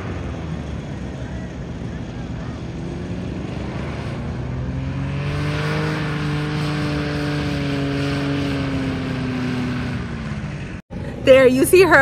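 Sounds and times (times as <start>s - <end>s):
paraglider engine droning: 0.0s - 12.0s.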